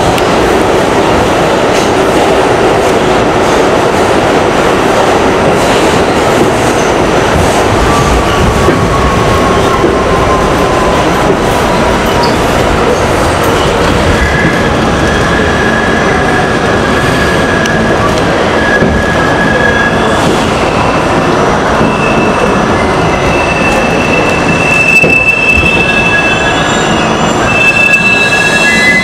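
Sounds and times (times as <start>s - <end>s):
high squeal of train: 0.0s - 29.0s
subway train wheels rumbling: 0.0s - 29.0s.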